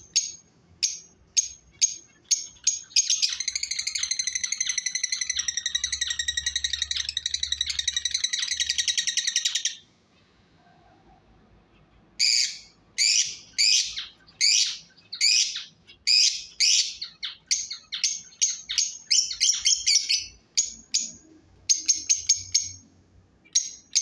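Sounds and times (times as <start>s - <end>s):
lovebirds chirping: 0.0s - 10.4s, 11.6s - 24.0s.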